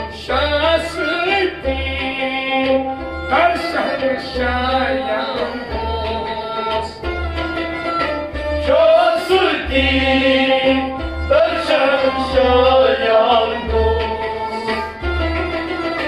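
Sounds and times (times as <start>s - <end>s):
man singing: 0.0s - 7.8s, 8.6s - 15.0s
bowed string instrument: 0.0s - 16.0s
keyboard instrument: 0.0s - 16.0s
hand drum beat: 1.5s - 16.0s.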